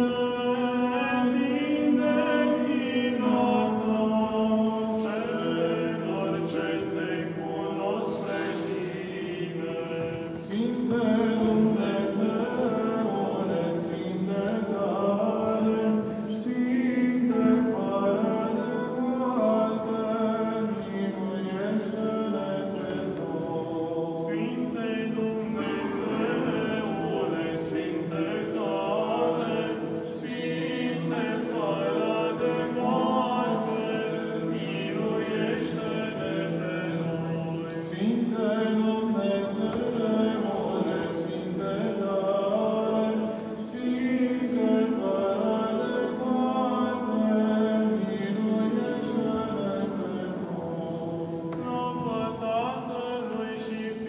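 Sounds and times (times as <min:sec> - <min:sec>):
unaccompanied liturgical chant: 0:00.0 - 0:54.0.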